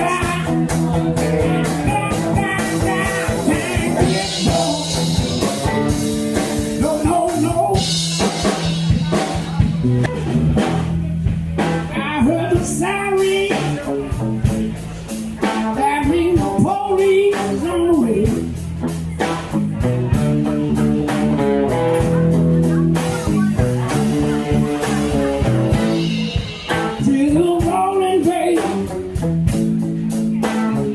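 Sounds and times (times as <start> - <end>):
bending lead guitar notes: 0.0 - 30.9
blues band playing: 0.0 - 30.9.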